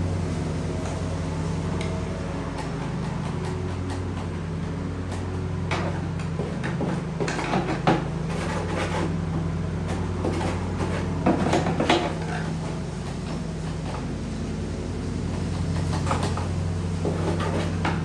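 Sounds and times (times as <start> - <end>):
low mechanical hum: 0.0 - 18.0
hand tools scraping and knocking: 0.8 - 18.0.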